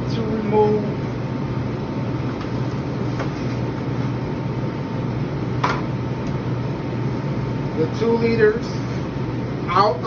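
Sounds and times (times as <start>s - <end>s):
refrigeration equipment humming: 0.0s - 10.0s.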